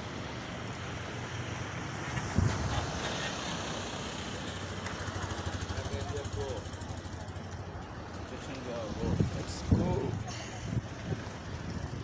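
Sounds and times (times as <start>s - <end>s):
pulsing engine rumble: 0.0s - 12.0s
traffic engines and tyre noise: 0.0s - 12.0s.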